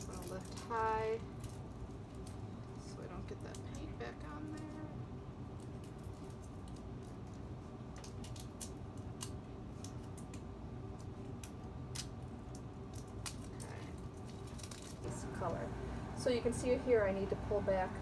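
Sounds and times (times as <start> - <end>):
plastic film crackling as peeled: 0.0 - 4.8, 5.5 - 15.2.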